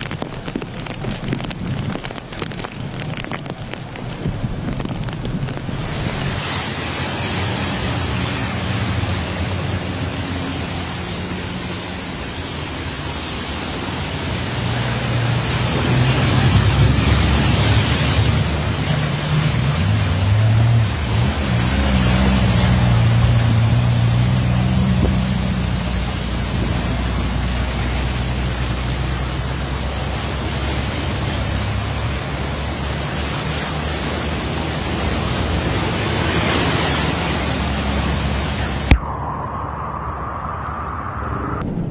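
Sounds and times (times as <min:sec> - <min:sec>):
vehicle engines driving through water: 0:00.0 - 0:40.9
floodwater rushing: 0:00.0 - 0:41.1.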